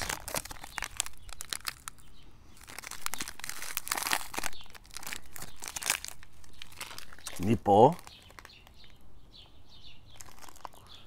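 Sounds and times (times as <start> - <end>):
snack wrapper crinkling and tearing: 0.0 - 9.1, 9.9 - 11.0.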